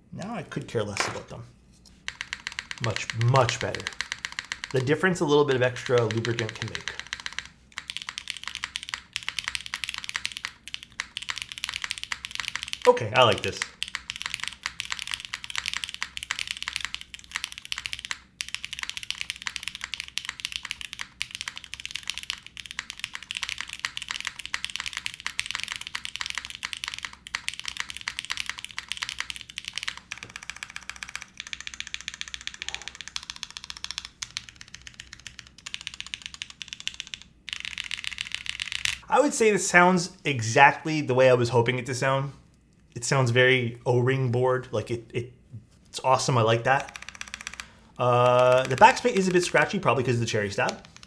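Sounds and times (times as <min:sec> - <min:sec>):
mechanical keyboard typing: 0:02.0 - 0:39.0, 0:46.4 - 0:51.0.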